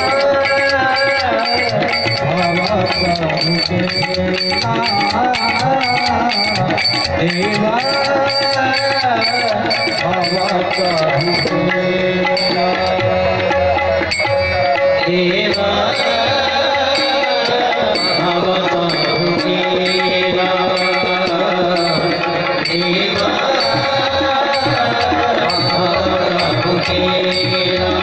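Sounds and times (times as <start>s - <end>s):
harmonium notes: 0.0s - 28.0s
high metallic tick: 0.0s - 28.0s
tabla rhythm: 0.0s - 28.0s.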